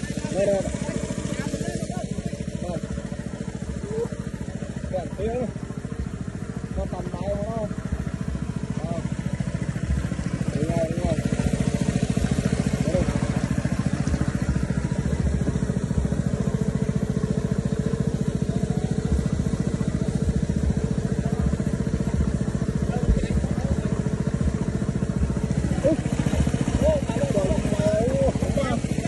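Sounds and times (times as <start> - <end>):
small engine running steadily: 0.0 - 29.0.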